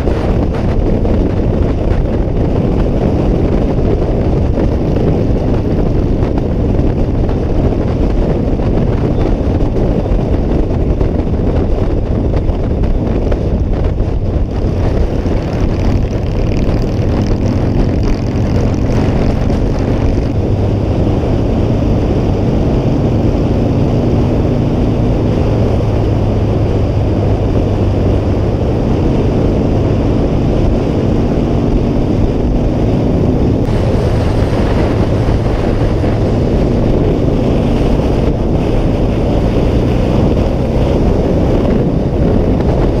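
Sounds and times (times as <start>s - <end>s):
motorcycle engine running: 0.0s - 43.0s
wind rushing over microphone: 0.0s - 43.0s.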